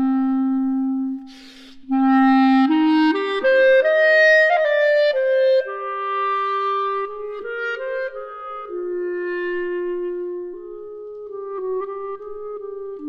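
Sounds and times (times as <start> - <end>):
solo clarinet melody: 0.0 - 13.0.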